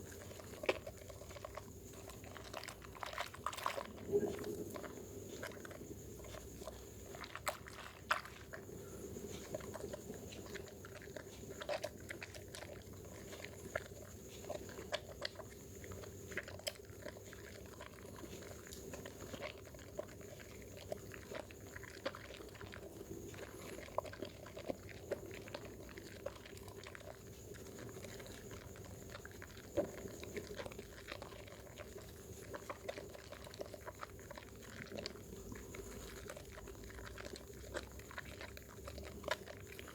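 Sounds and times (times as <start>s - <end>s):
faint background hum: 0.0s - 39.9s
soap lather squishing and crackling: 0.0s - 39.9s.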